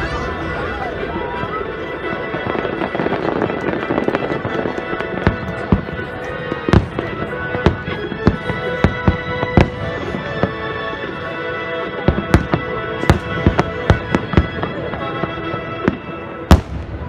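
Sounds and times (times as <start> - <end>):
firework bangs: 0.0 - 10.6, 12.1 - 17.0
fireworks crackling: 0.0 - 17.0
music with long held notes: 0.0 - 17.0.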